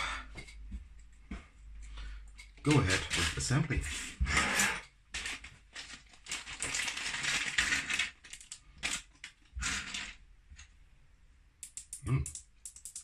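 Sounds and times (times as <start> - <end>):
electronic parts rustling and clicking: 0.4 - 10.7, 11.6 - 13.0.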